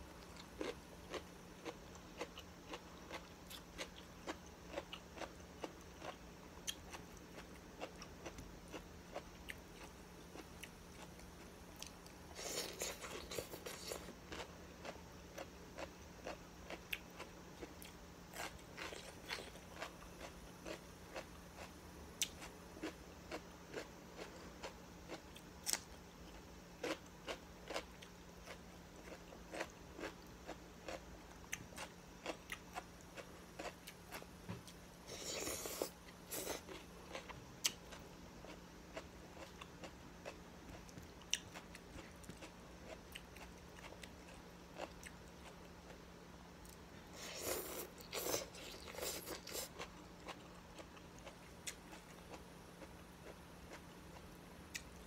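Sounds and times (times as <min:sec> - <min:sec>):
chewing and crunching food: 0:00.1 - 0:55.0.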